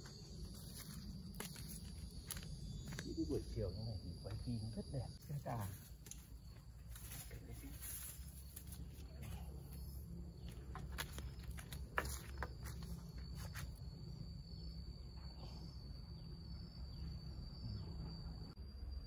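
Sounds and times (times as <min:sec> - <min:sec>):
insect high-pitched call: 0:00.0 - 0:19.0.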